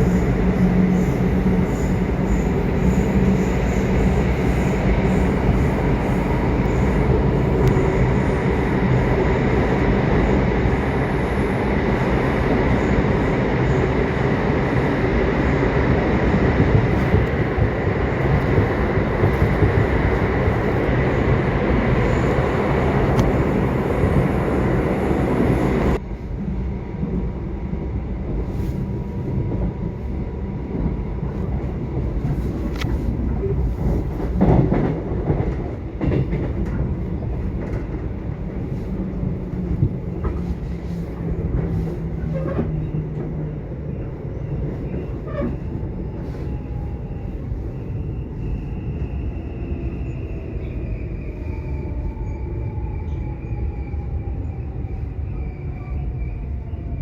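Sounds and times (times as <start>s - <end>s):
subway train rumble: 0.0s - 57.0s.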